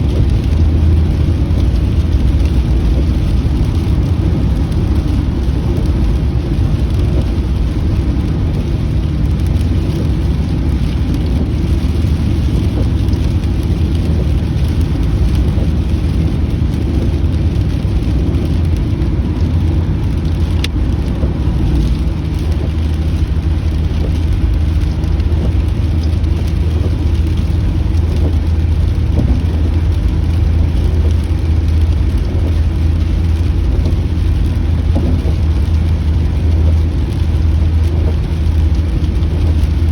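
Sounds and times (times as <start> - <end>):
car driving rumble: 0.0 - 39.9
rain on car: 0.0 - 39.9.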